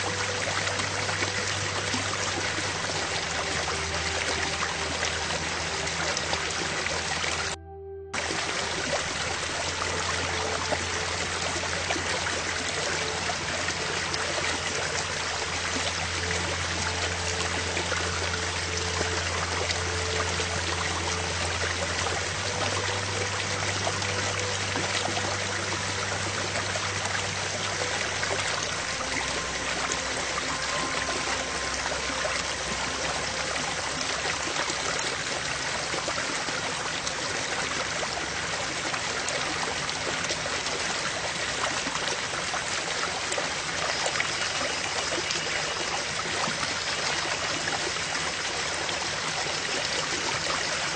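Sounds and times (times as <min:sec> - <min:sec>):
rushing flowing water: 0:00.0 - 0:07.6, 0:08.2 - 0:50.9
soft low sustained notes: 0:00.0 - 0:50.9.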